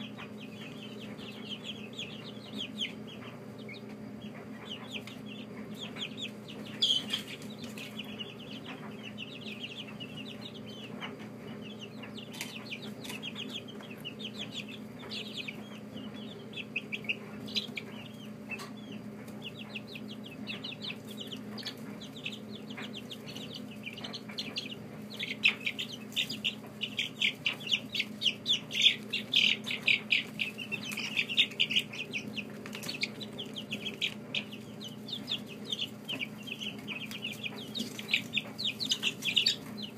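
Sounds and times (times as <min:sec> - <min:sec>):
chicks peeping: 0:00.0 - 0:39.9
steady low hum: 0:00.0 - 0:39.9.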